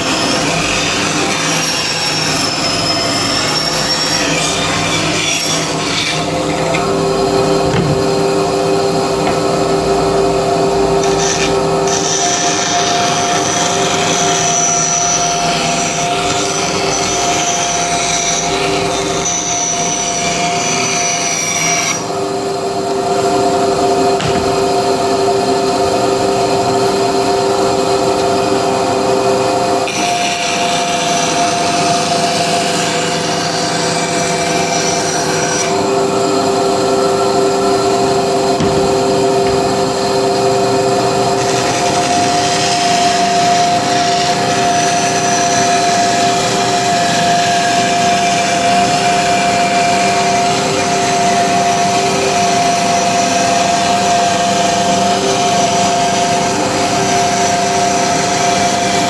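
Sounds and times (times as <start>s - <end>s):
electric power tool running: 0.0s - 59.0s.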